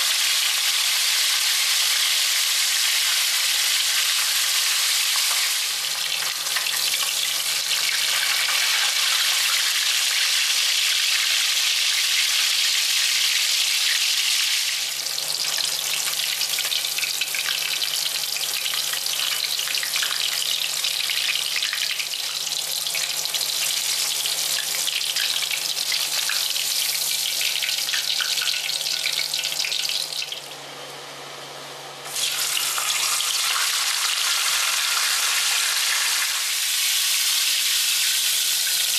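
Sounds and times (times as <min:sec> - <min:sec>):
fish sizzling in hot oil: 0:00.0 - 0:30.5, 0:32.1 - 0:38.9.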